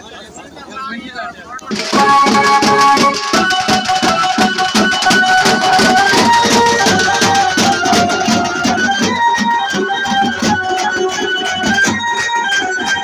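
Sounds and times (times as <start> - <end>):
drums beaten with sticks: 1.7 - 13.0
melody of held notes: 1.7 - 13.0.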